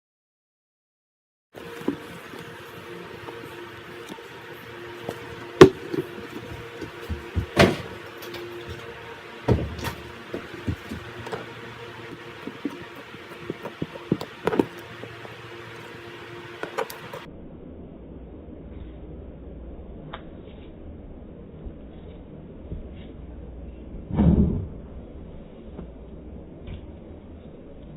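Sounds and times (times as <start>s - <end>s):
steady hiss and hum: 1.6s - 27.9s.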